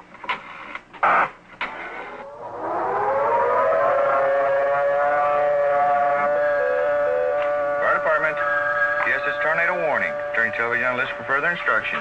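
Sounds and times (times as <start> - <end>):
civil defense siren wailing: 2.0 - 12.0.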